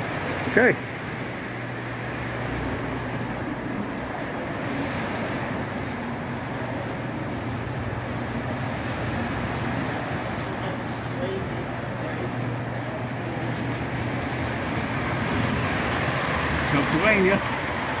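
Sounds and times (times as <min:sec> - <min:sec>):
model trains rumbling: 0:00.0 - 0:18.0
room noise: 0:00.0 - 0:18.0.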